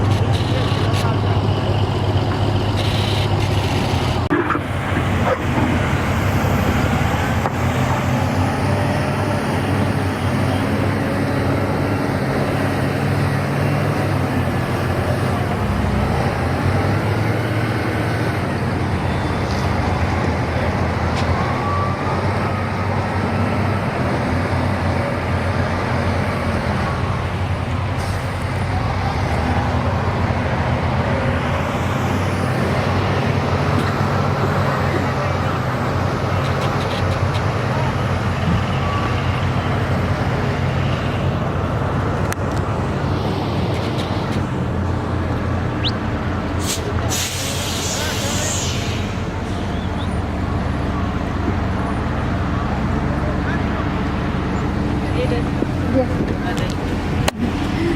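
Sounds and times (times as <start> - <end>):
road traffic: 0.0 - 57.9.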